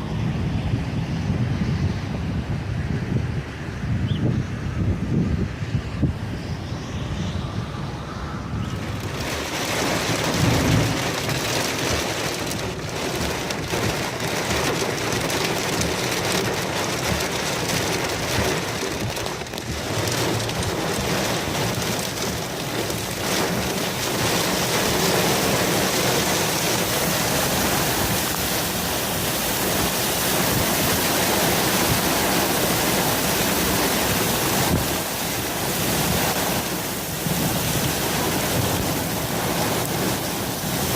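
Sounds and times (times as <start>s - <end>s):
heavy rain and wind: 0.0s - 40.9s.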